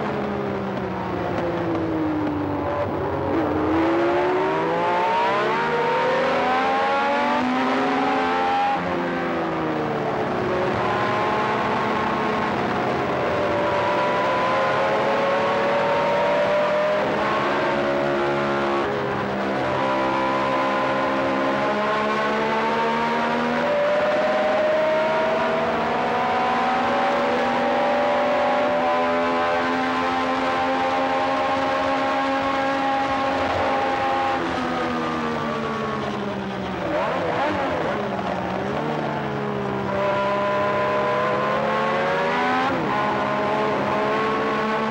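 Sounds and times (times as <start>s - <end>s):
wind and road noise: 0.0s - 44.9s
racing car engine revving: 1.1s - 44.9s.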